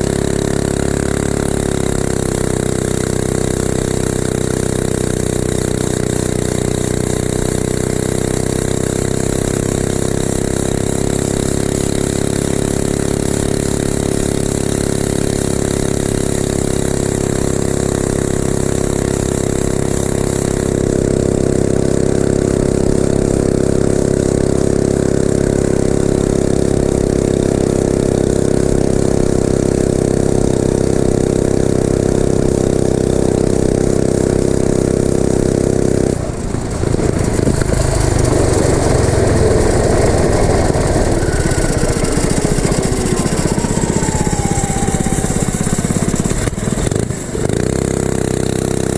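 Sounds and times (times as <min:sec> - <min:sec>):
mini bike engine running: 0:00.0 - 0:48.9.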